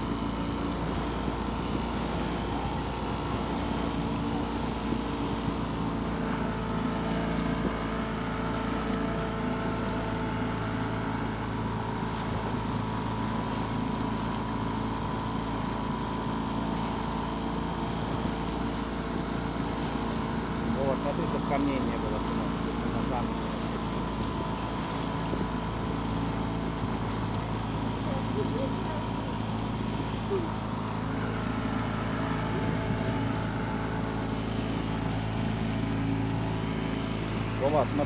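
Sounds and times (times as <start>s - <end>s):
hiss of wind and water: 0.0s - 38.0s
motorboat engine running: 0.0s - 38.0s.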